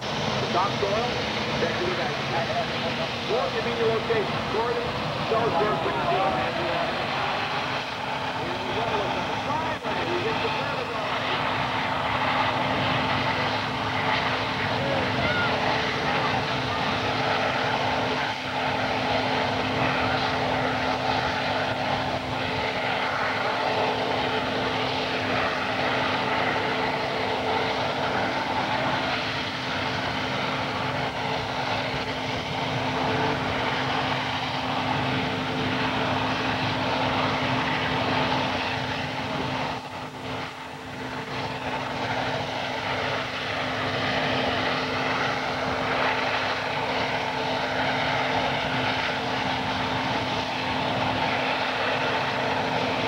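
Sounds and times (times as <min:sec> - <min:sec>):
gas turbine engine whine: 0:00.0 - 0:53.0.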